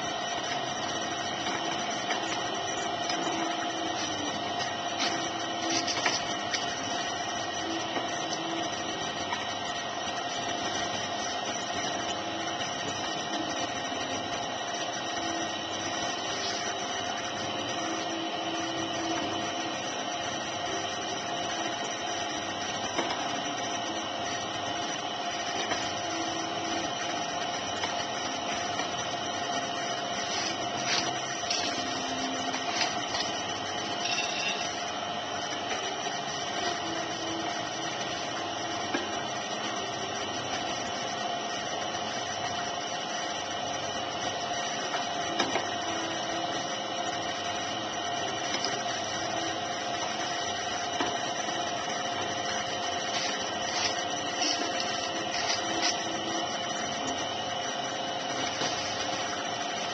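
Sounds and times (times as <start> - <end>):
potter's wheel motor hum: 0.0 - 59.9
wet clay on spinning wheel: 0.0 - 59.9.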